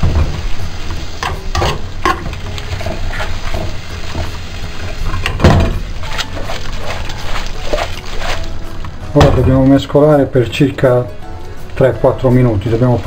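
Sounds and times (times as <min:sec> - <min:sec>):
noodles sizzling in a frying pan: 0:00.0 - 0:13.0.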